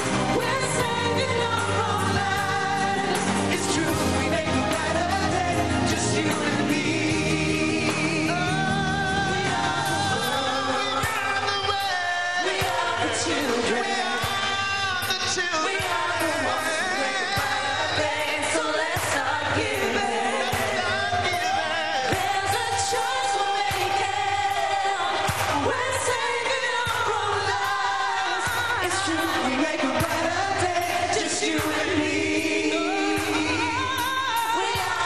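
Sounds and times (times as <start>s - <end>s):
drum beat: 0.0s - 35.0s
pop band playing: 0.0s - 35.0s
solo voices singing with vibrato: 0.0s - 35.0s.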